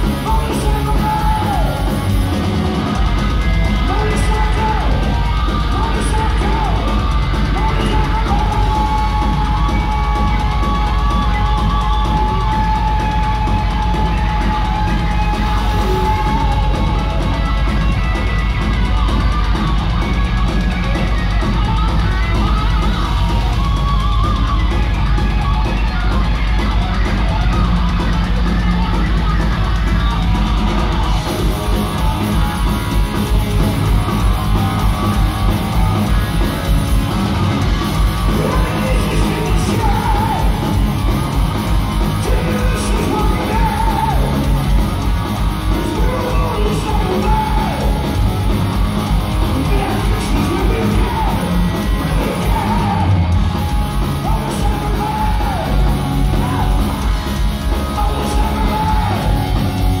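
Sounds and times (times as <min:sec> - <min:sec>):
distorted electric guitars: 0:00.0 - 1:00.0
fast driving drums: 0:00.0 - 1:00.0.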